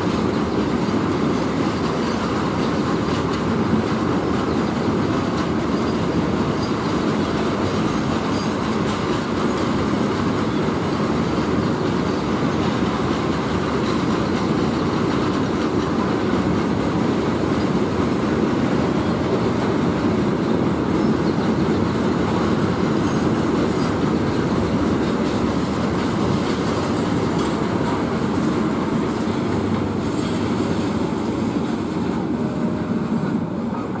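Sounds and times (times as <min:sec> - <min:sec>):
freight train wheels clattering: 0:00.0 - 0:34.0.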